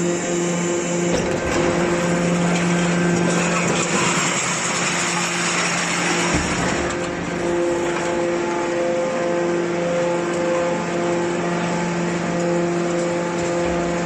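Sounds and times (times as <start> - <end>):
hydraulic baler droning: 0.0 - 14.0.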